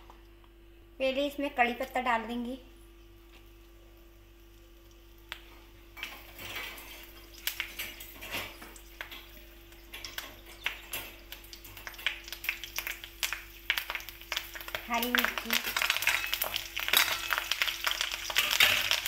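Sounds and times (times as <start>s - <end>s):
leaves crackling in hot oil: 1.5s - 19.0s.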